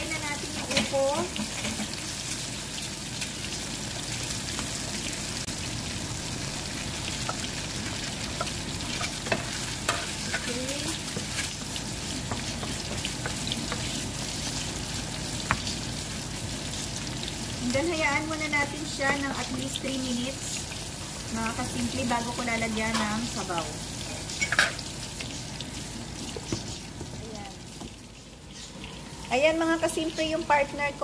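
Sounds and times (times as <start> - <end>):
meat sizzling in a wok: 0.0 - 31.0.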